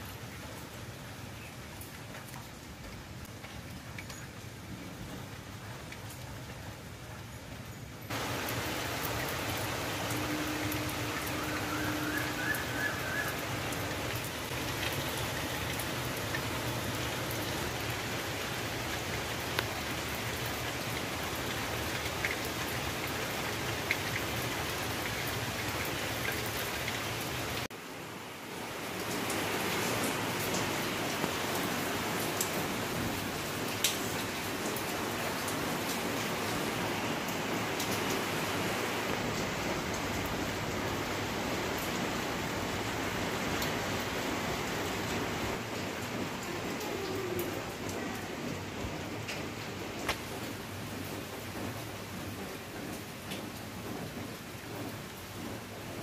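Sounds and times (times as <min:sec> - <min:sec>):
heavy rain on concrete and leaves: 0:00.0 - 0:56.0
sharp raindrops: 0:00.0 - 0:56.0.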